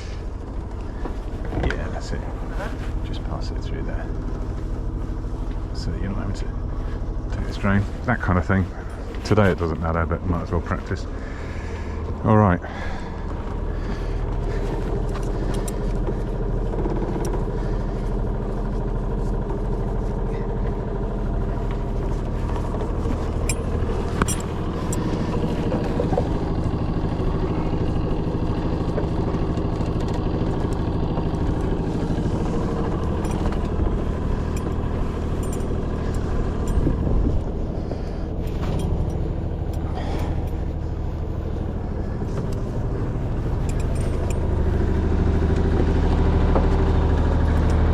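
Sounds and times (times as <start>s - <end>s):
boat engine idling: 0.0s - 47.9s.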